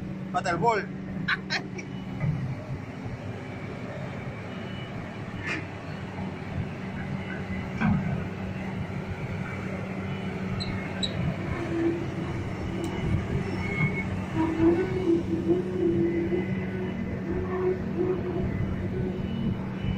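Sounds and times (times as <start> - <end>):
diesel engine running: 0.0 - 19.9
high-pitched engine whine: 0.0 - 19.9.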